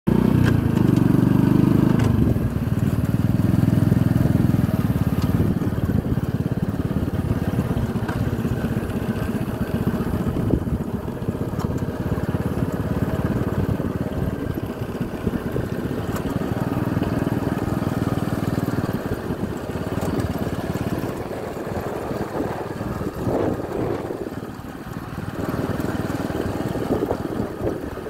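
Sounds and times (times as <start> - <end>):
motorcycle engine running: 0.1 - 28.0.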